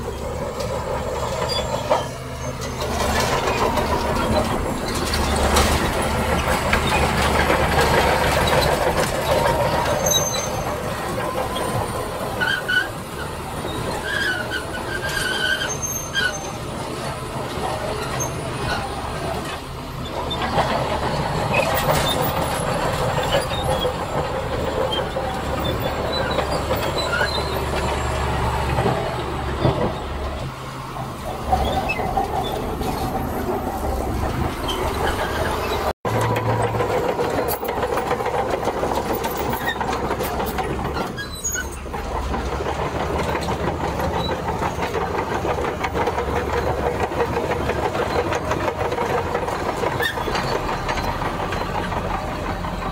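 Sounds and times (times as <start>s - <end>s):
crawler tracks clatter and whine: 0.0s - 52.9s
diesel engine under load: 0.0s - 52.9s.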